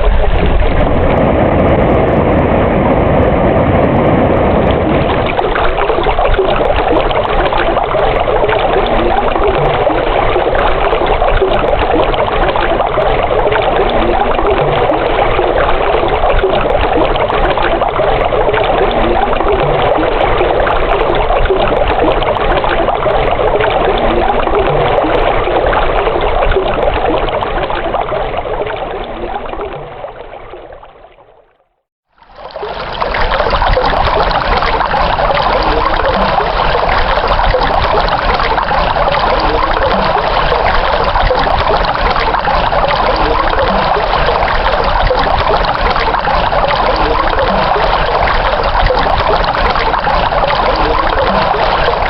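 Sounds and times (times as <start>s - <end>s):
stream water trickling: 4.6s - 52.0s.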